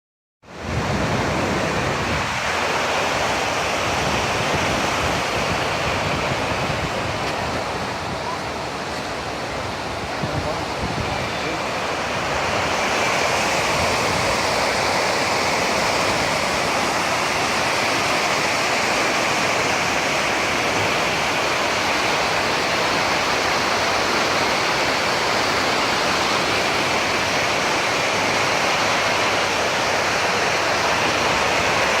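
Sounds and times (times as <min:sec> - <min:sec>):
floodwater rushing: 0:00.5 - 0:32.0.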